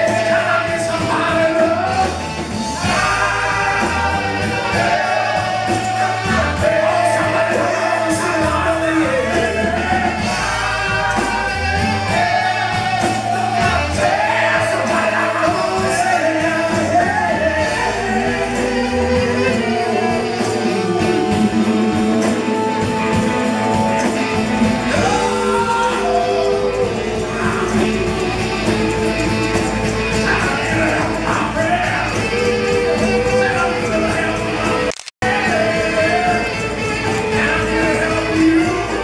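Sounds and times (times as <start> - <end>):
live rock band playing: 0.0 - 39.0
person singing: 2.8 - 29.4, 30.2 - 39.0.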